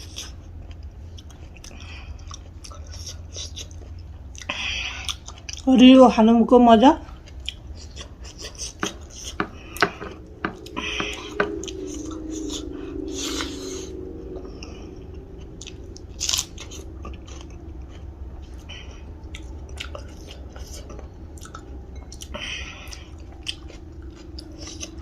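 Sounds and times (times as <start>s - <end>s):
person chewing food: 0.0s - 5.6s, 7.1s - 12.2s, 15.6s - 25.0s.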